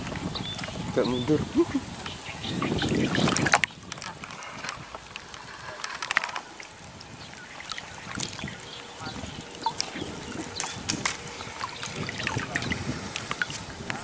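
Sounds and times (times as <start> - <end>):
river water lapping and trickling: 0.0 - 14.0.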